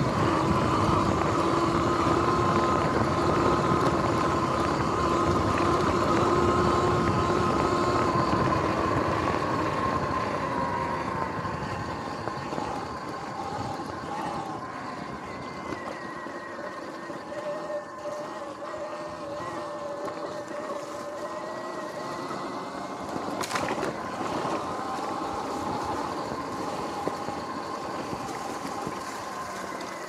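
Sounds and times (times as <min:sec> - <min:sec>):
electric motor whine: 0:00.0 - 0:30.0.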